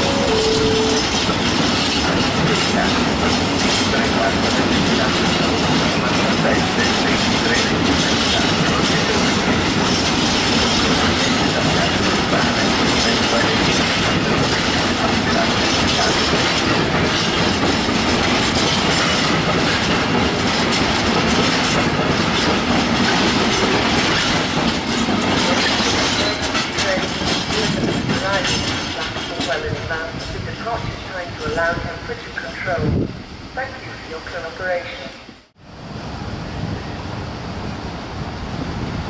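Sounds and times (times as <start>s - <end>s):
freight train rolling on rails: 0.0s - 39.0s.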